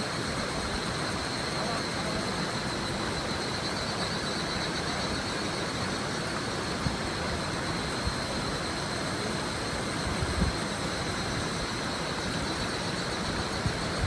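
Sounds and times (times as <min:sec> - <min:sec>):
cicadas shrilling: 0:00.0 - 0:14.0.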